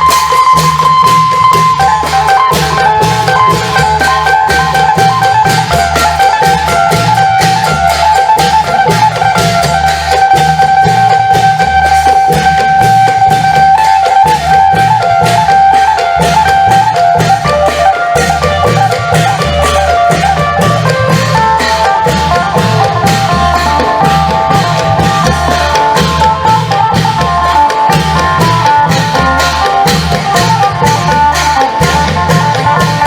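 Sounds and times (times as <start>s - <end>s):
long drums playing a beat: 0.0s - 33.0s
sharp percussion strikes: 0.0s - 33.0s.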